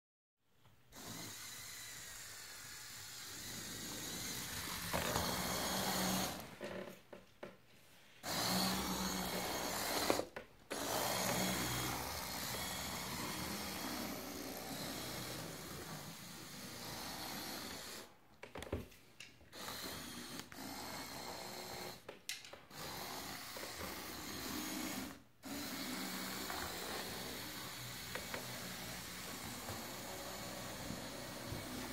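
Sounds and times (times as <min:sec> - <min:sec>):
small electric motors whirring: 0:00.9 - 0:06.8, 0:08.2 - 0:18.1, 0:19.5 - 0:31.9.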